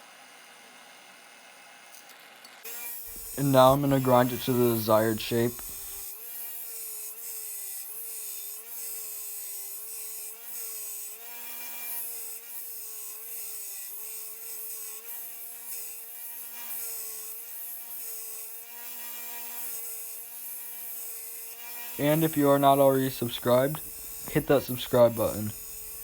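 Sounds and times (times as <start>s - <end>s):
power grinder grinding metal: 0.5s - 26.0s.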